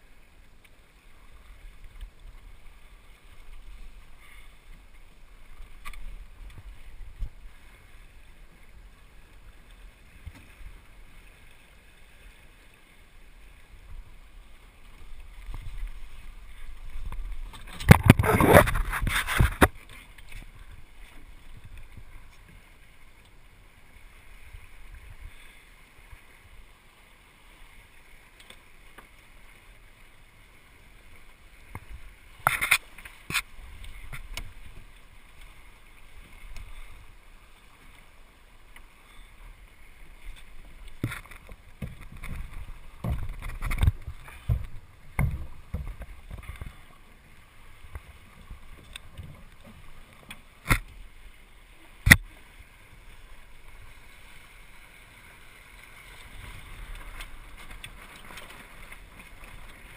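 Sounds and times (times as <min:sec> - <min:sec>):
water washing along boat hull: 0:00.0 - 0:59.9.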